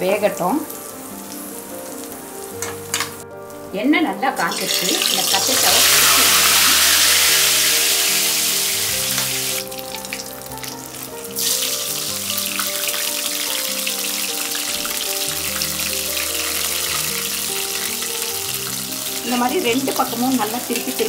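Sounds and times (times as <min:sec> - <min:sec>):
food sizzling in hot oil: 0:00.0 - 0:21.0
soft background music: 0:00.0 - 0:21.0.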